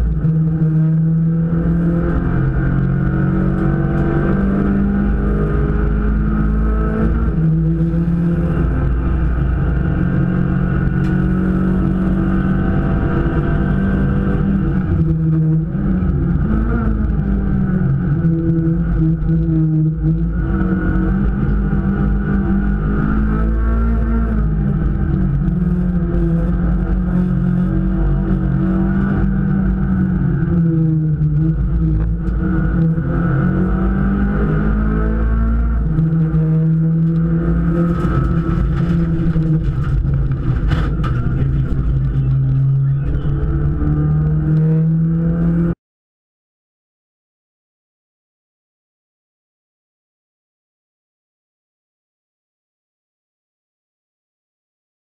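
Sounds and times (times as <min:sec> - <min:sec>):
race car engine running hard: 0:00.0 - 0:45.7
road noise: 0:00.0 - 0:45.8.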